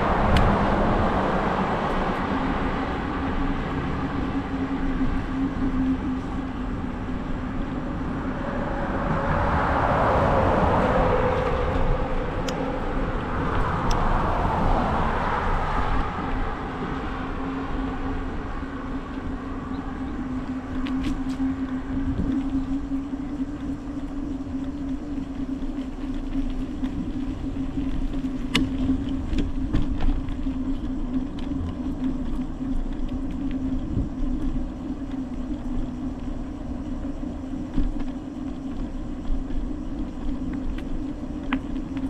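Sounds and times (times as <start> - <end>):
bicycle tyre noise on road: 0.0 - 42.0
steady hum: 0.0 - 42.0
wind rushing over microphone: 0.0 - 42.0.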